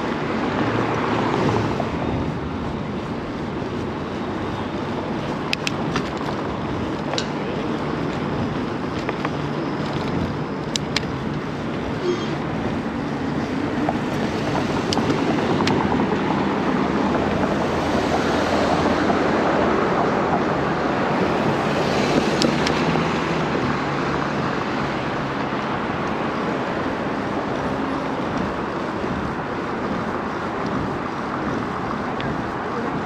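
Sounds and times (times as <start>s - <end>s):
motor vehicles running: 0.0s - 33.0s
road and wind noise: 0.0s - 33.0s.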